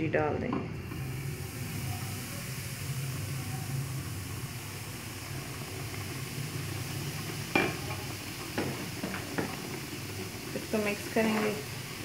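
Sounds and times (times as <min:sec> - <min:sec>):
semolina sizzling in hot ghee: 0:00.0 - 0:12.0.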